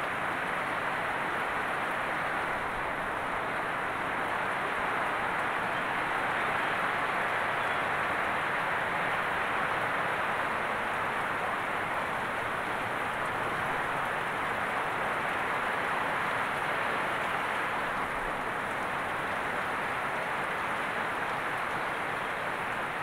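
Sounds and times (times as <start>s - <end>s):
heavy rain on leafy plants: 0.0s - 23.0s.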